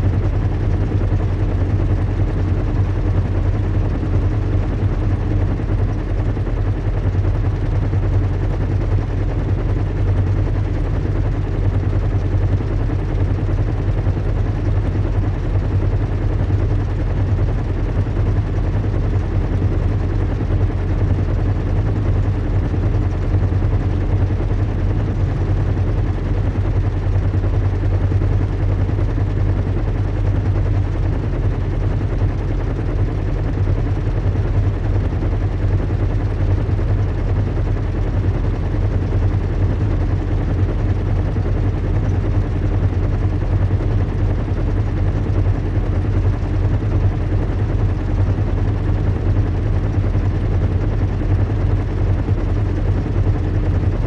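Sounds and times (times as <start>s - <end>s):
constant rushing noise: 0.0s - 54.0s
low engine hum: 0.0s - 54.0s.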